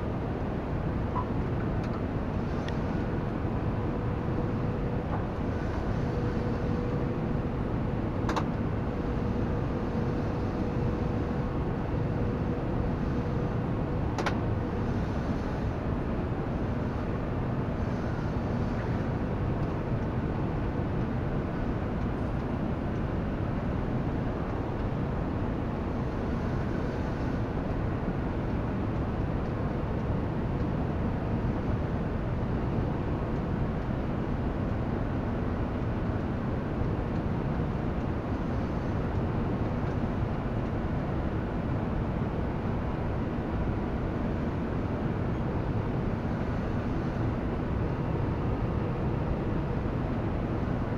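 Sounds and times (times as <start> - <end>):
tractor engine drone: 0.0 - 50.9.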